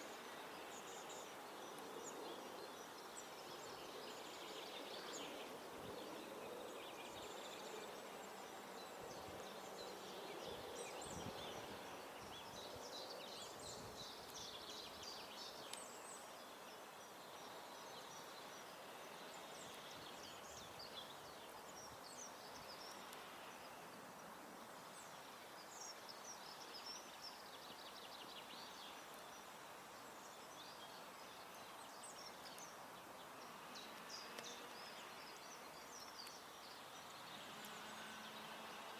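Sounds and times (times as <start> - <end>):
faint outdoor hiss: 0.0 - 38.9
songbirds chirping: 0.0 - 38.9.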